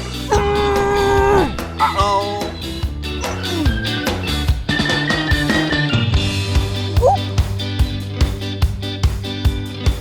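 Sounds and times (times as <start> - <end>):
upbeat music with drums: 0.0 - 10.0.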